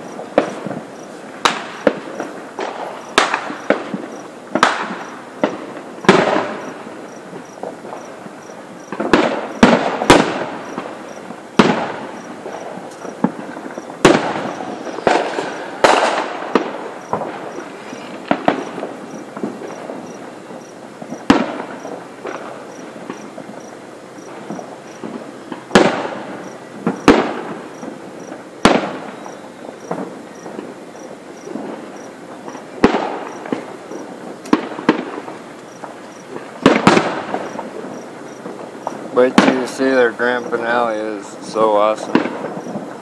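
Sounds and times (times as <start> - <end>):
fireworks booming: 0.0 - 43.0
fireworks crackling: 0.0 - 43.0.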